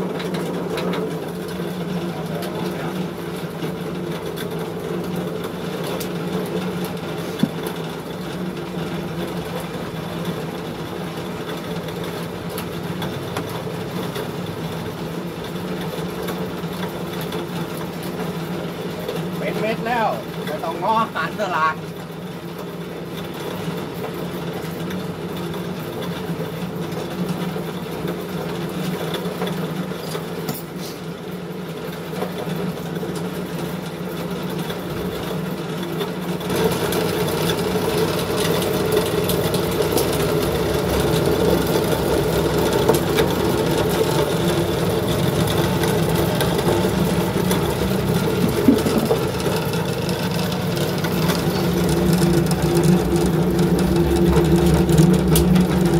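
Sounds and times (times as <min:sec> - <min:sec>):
pellet mill motor hum and rattle: 0:00.0 - 0:55.9.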